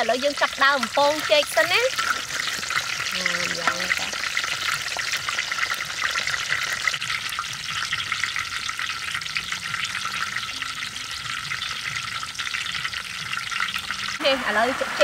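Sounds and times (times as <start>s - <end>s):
hot oil sizzling and popping: 0.0s - 15.0s.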